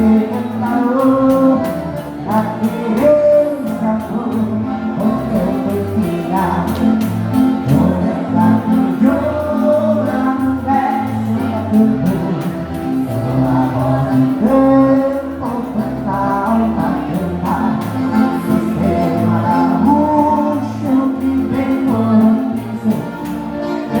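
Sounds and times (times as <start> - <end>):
accordion-led band: 0.0 - 24.0
person singing: 0.0 - 24.0.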